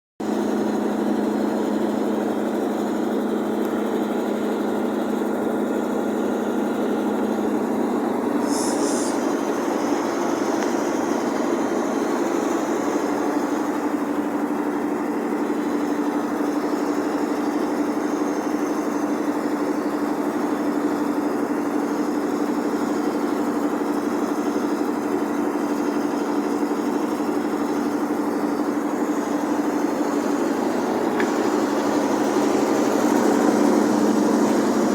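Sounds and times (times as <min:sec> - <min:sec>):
generator engine humming: 0:00.2 - 0:34.9.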